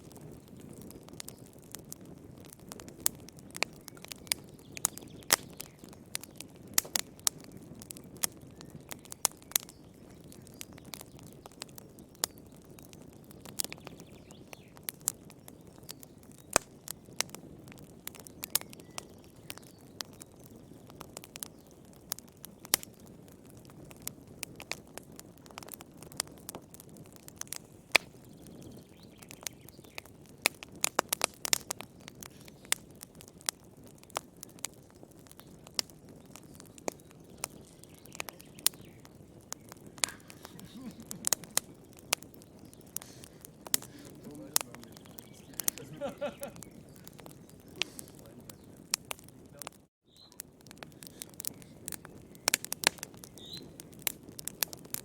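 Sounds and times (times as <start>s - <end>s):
low hiss of burning: 0.0s - 55.0s
wood fire crackling and popping: 0.0s - 55.0s.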